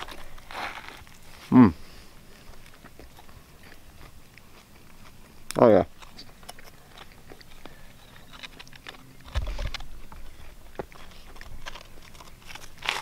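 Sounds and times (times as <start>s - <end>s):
man chewing: 0.0s - 13.0s.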